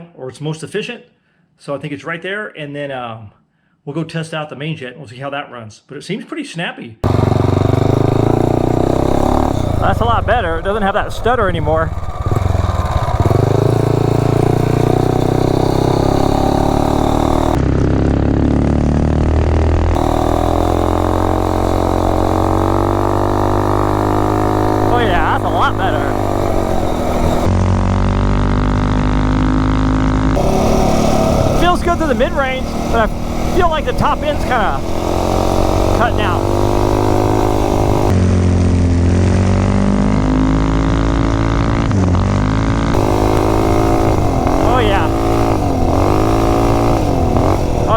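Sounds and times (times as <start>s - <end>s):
small engine revving: 7.0s - 47.9s.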